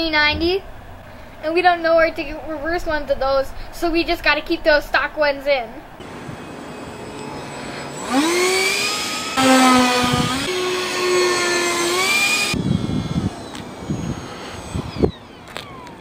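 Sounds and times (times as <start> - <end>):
low rumbling: 0.0 - 15.9
model jet ducted-fan whine: 0.0 - 16.0.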